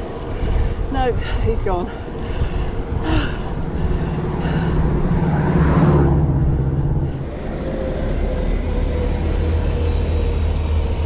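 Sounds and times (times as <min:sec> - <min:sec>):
motor vehicle passing: 0:00.0 - 0:11.0
steady traffic noise: 0:00.0 - 0:11.0.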